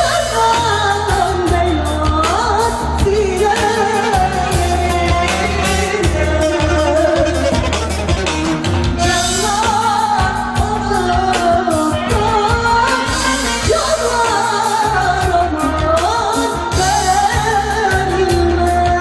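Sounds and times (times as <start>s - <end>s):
woman singing through amplification: 0.0s - 7.8s, 8.9s - 19.0s
drum beating a steady pulse: 0.0s - 19.0s
lute playing: 2.6s - 19.0s.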